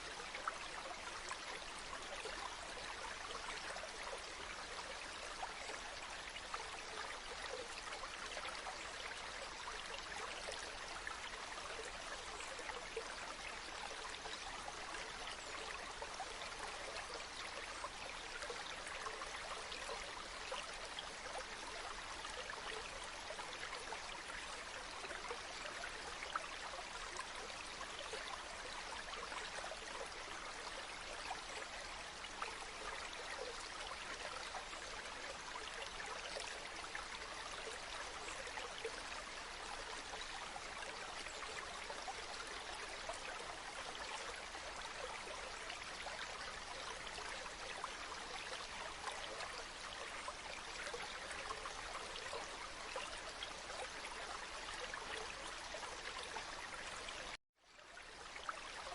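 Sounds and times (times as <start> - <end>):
stream babbling over stones: 0.0 - 58.9.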